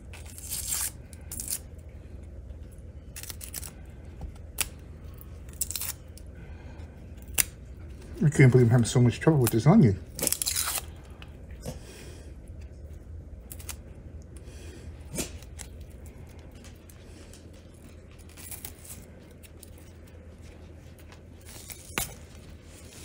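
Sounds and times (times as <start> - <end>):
onion skin crackling: 0.0 - 11.7, 13.4 - 14.4, 15.0 - 23.0
low steady hum: 0.0 - 23.0.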